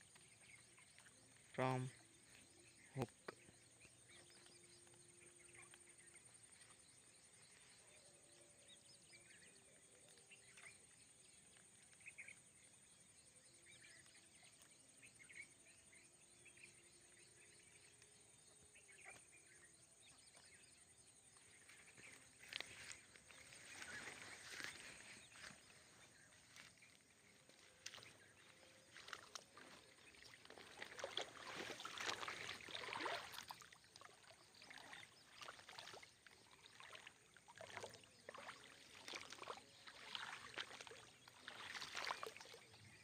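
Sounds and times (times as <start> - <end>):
faint bird chirps: 0.0 - 43.0.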